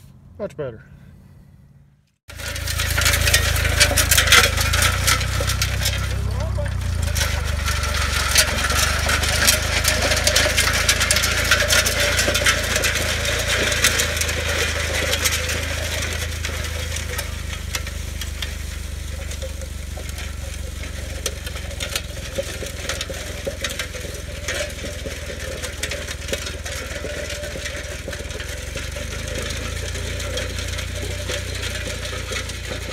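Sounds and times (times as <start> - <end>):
tractor engine running: 2.2 - 32.9
steel discs rattling over gravel: 2.3 - 32.9.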